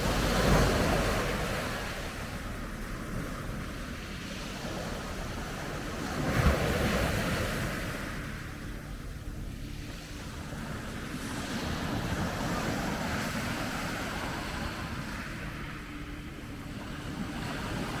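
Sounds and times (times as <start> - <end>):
sea waves washing onto shore: 0.0 - 8.9, 9.6 - 18.0
wind rumbling on microphone: 0.0 - 18.0.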